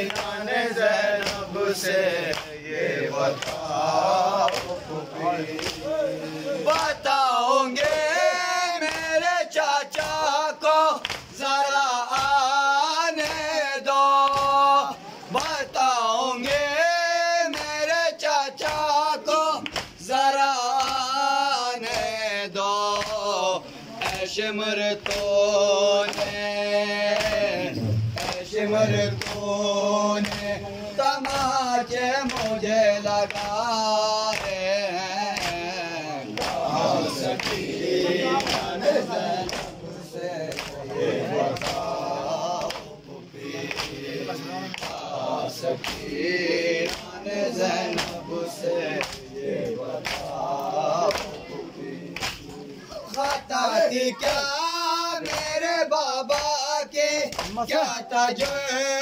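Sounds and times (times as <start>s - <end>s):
male voices chanting a lament: 0.0s - 59.0s.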